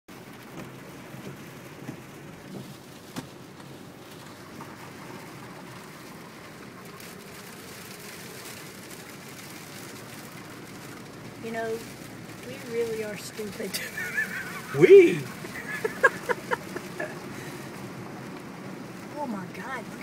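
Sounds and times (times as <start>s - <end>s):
heavy rain beating on a car: 0.1s - 20.0s
sharp taps of raindrops: 0.1s - 20.0s.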